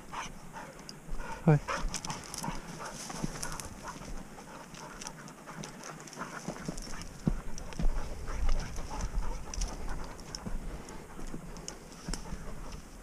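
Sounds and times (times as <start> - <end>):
dog panting: 0.0 - 13.0
footsteps crunching on stones: 1.7 - 13.0.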